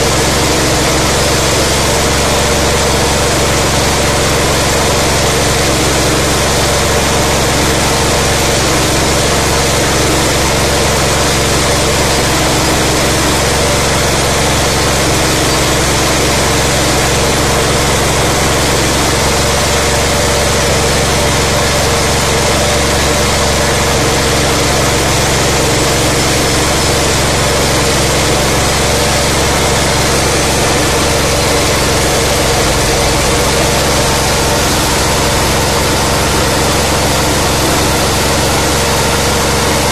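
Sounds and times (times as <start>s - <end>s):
engine and milling machinery din: 0.0s - 39.9s.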